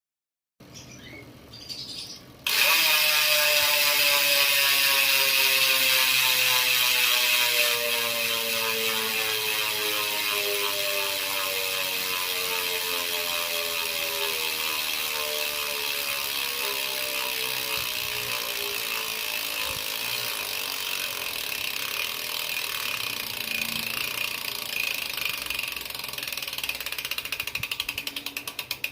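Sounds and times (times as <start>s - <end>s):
bicycle freehub ratcheting: 2.4s - 28.9s.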